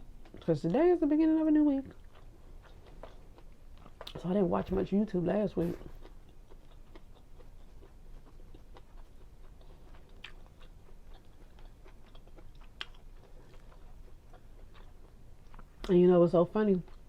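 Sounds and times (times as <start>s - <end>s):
person chewing food: 0.0s - 16.0s, 16.6s - 17.0s.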